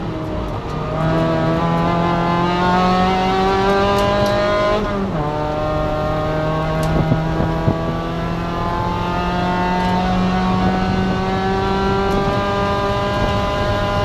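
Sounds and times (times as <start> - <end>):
race car engine running hard: 0.0 - 14.0.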